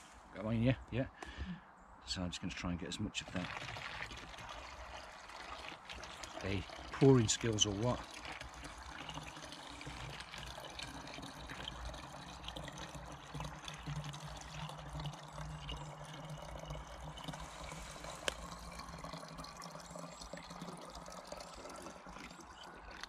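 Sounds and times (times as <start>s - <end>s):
water trickling into bottle: 3.1s - 23.0s.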